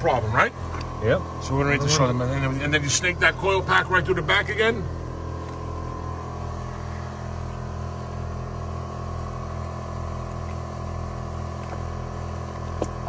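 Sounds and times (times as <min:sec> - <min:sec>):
pulsing machine hum: 0:00.0 - 0:13.0.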